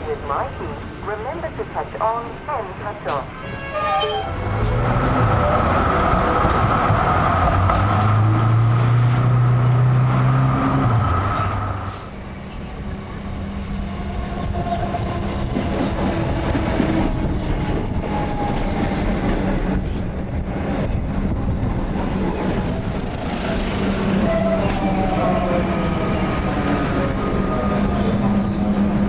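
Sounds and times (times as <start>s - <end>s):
wheels rumbling on rails: 4.2s - 29.0s
electric train hum: 4.5s - 29.0s.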